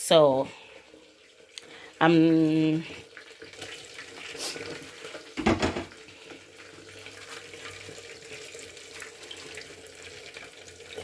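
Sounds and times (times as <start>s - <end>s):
water running from a tap: 0.0s - 11.0s.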